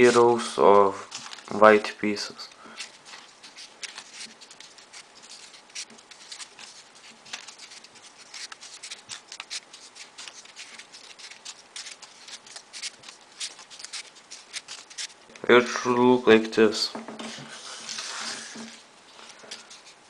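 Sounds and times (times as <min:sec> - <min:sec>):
paper clicks and rustles: 0:01.0 - 0:01.7, 0:02.4 - 0:15.5, 0:17.2 - 0:20.0.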